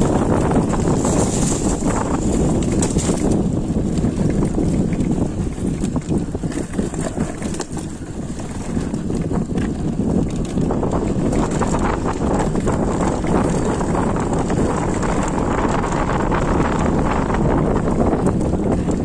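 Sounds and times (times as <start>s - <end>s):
mountain bike rattling on trail: 0.0s - 19.0s
wind buffeting microphone: 0.0s - 19.0s.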